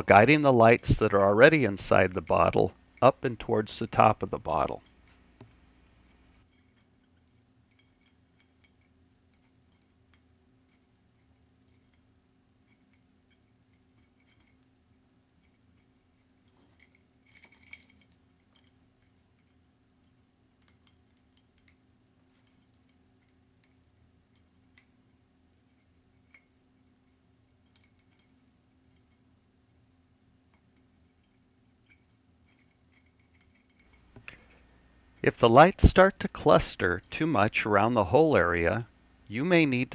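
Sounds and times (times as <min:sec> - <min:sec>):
small bulbs clinking on glass: 0:00.1 - 0:14.7, 0:15.3 - 0:29.9, 0:30.5 - 0:35.3.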